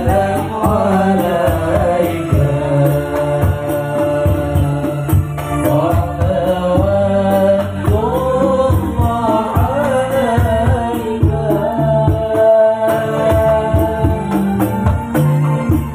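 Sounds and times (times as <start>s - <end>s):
drums and hand percussion: 0.0s - 15.9s.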